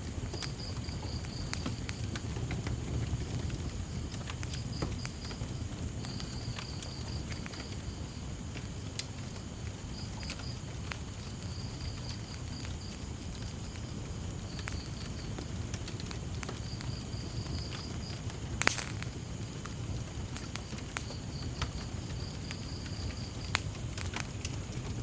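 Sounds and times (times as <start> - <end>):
crickets chirping: 0.0 - 25.0
wood fire crackling: 0.0 - 25.0.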